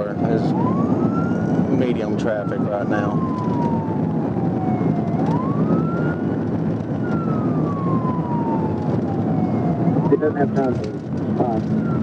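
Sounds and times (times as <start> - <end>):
car engine and road noise: 0.0 - 12.0
police siren wailing: 0.0 - 12.0.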